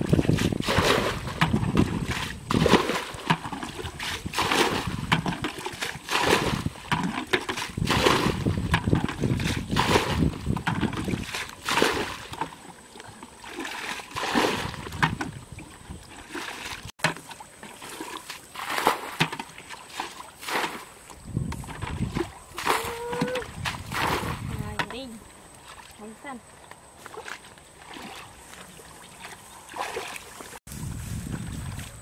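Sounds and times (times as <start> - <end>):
bucket scooping and sloshing water: 0.0 - 32.0.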